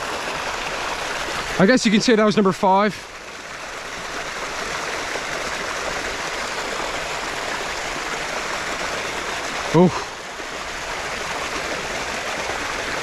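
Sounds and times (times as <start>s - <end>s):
stream splashing over waterfall: 0.0s - 13.0s.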